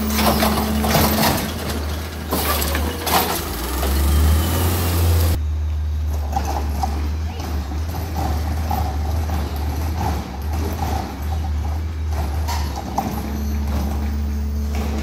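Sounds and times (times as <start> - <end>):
sharp clanks: 0.0 - 4.0, 6.1 - 15.0
diesel engine low rumble: 0.0 - 15.0.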